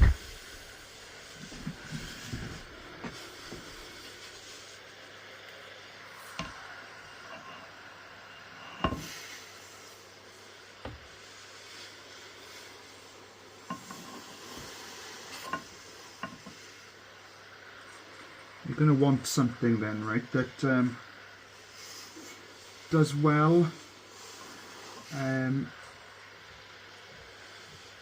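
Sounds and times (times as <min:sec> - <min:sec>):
water hissing onto soil: 0:00.0 - 0:07.2, 0:09.0 - 0:18.8, 0:20.0 - 0:28.0.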